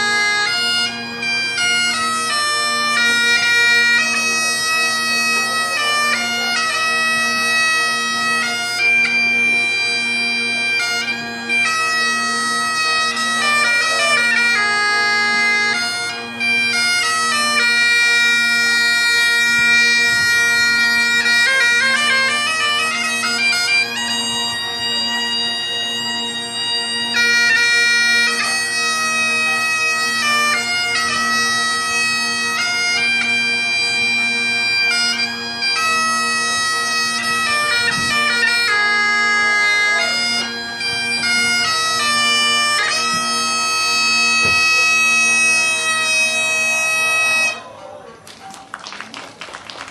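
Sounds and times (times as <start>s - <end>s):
bagpipe playing: 0.0s - 47.8s.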